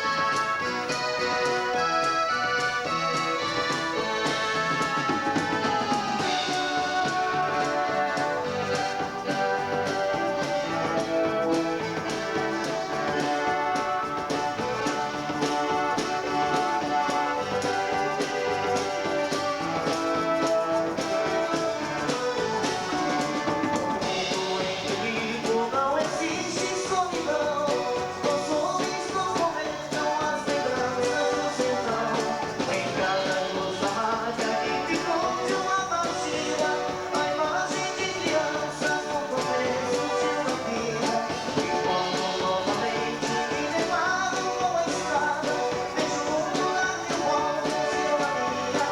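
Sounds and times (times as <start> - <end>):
dance band playing: 0.0 - 48.9.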